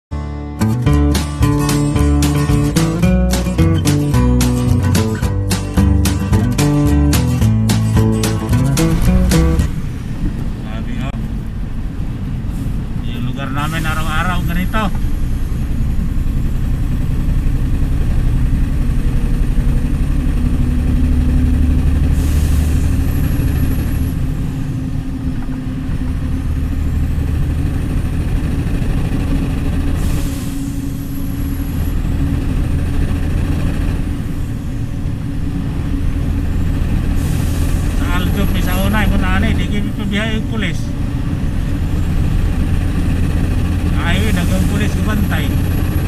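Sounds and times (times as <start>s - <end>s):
diesel engine droning: 0.1s - 46.0s.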